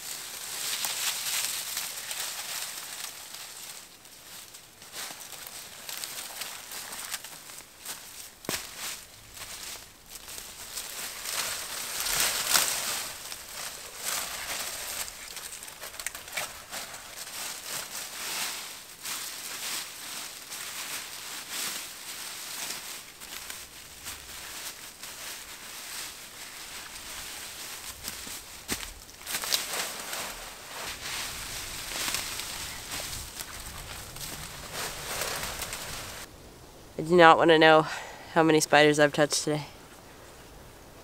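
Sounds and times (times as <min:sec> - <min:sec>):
dry leaves and twigs rustling: 0:00.0 - 0:36.3.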